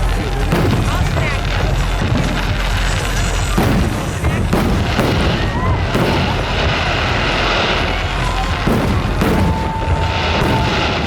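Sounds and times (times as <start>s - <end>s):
firework whistle: 0.0s - 11.0s
fireworks booming: 0.0s - 11.0s.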